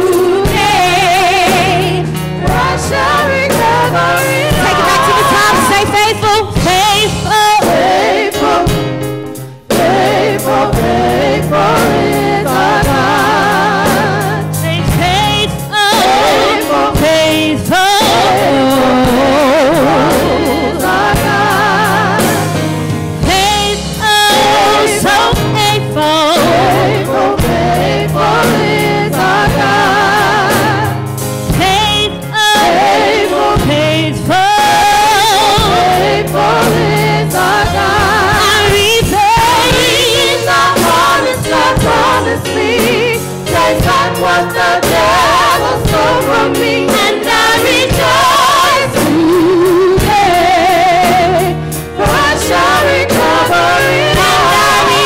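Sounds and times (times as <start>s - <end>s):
low instrumental accompaniment: 0.0s - 55.0s
women singing gospel together: 0.0s - 55.0s.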